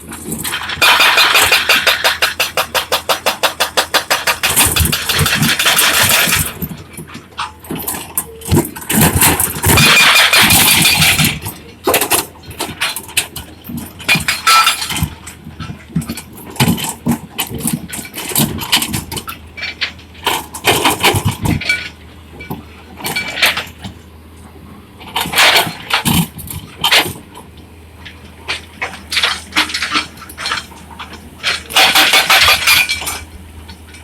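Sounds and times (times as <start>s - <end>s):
loud scraping and clatter: 0.0s - 23.9s, 28.1s - 34.0s
excavator engine running: 0.0s - 34.0s
clanks and knocks: 0.1s - 24.0s, 28.0s - 34.0s.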